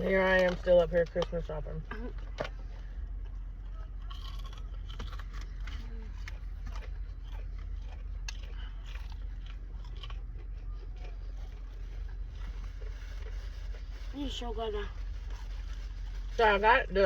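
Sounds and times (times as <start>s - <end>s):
low hum: 0.0s - 17.0s
crunchy chewing: 2.0s - 16.4s.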